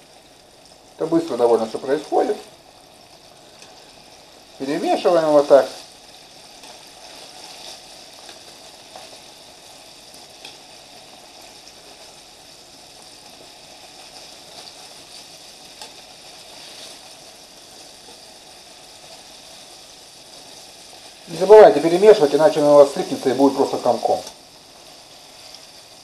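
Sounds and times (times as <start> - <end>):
fish sizzling in hot oil: 0.0 - 26.0
small crackles: 0.0 - 26.0.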